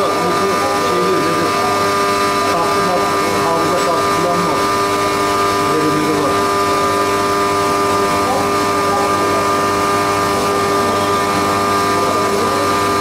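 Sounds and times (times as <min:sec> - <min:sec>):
milling machine whine: 0:00.0 - 0:13.0.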